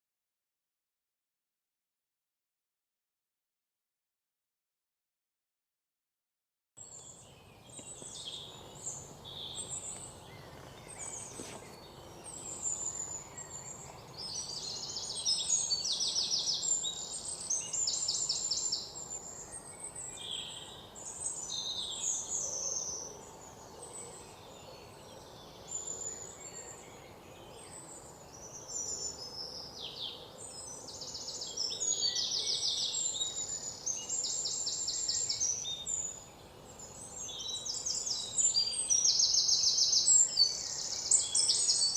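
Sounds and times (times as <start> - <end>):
birds chirping and trilling: 6.8 - 41.9
faint steady hiss: 6.8 - 41.9.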